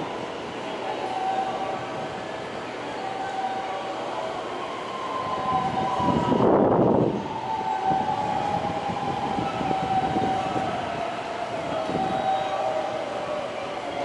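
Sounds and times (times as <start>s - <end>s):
electric train whining: 0.0s - 14.0s.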